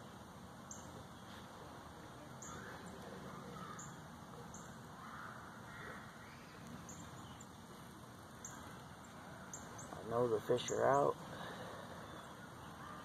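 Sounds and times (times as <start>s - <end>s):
small birds chirping: 0.0s - 13.0s
steady outdoor hiss: 0.0s - 13.0s.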